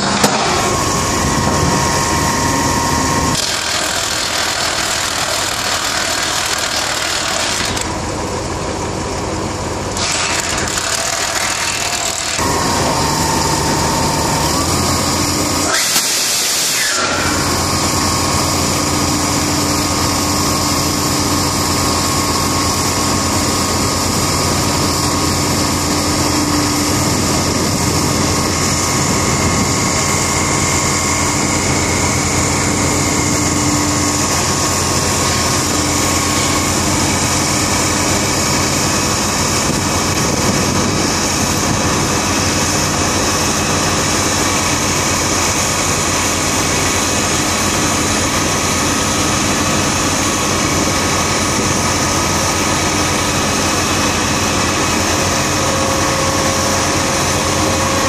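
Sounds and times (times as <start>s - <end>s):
diesel drill rig running: 0.0s - 58.0s.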